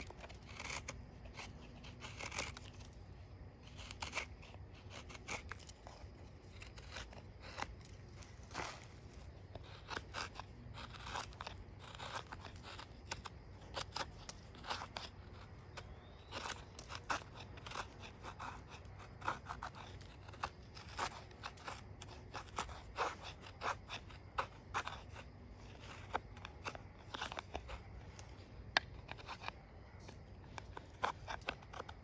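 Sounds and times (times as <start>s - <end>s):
knife scraping wood: 0.0s - 32.0s.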